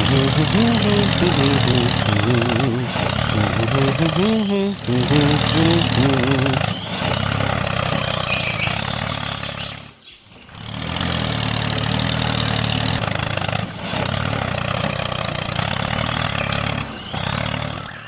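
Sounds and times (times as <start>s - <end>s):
small engine humming: 0.0s - 18.0s.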